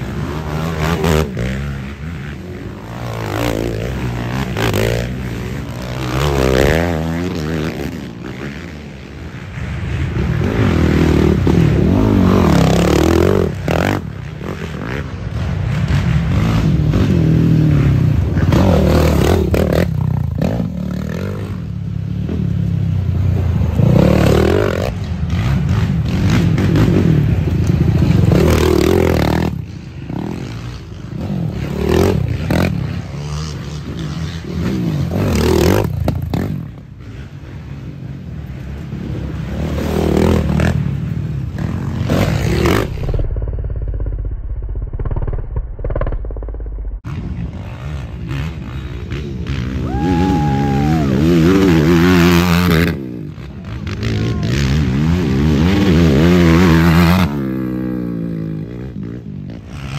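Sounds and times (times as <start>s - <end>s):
quad engines revving: 0.0s - 37.9s, 47.0s - 59.9s.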